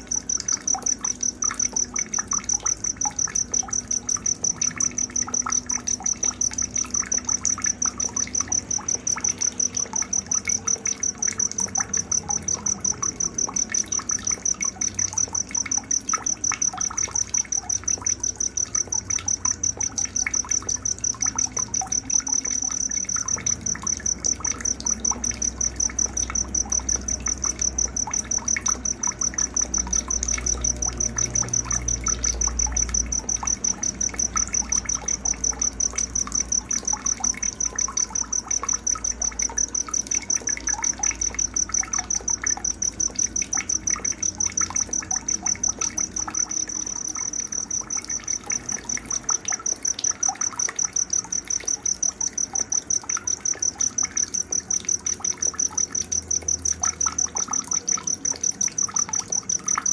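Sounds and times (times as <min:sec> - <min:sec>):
cricket chirping: 0:00.0 - 0:59.9
trickling water: 0:00.0 - 0:59.9.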